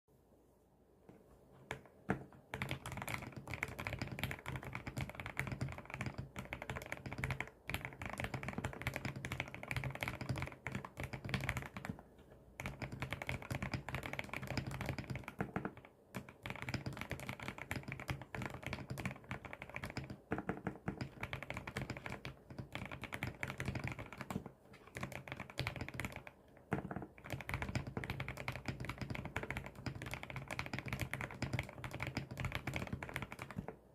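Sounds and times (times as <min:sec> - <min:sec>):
mechanical keyboard typing: 0:01.7 - 0:12.0, 0:12.6 - 0:33.8.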